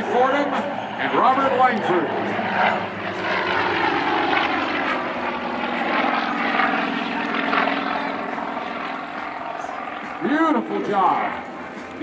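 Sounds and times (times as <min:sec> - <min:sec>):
propeller planes droning: 0:00.0 - 0:12.0.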